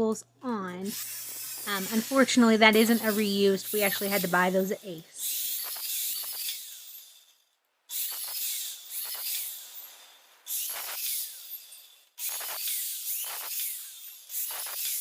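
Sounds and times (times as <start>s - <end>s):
metal conduit being cut: 0.9s - 15.0s.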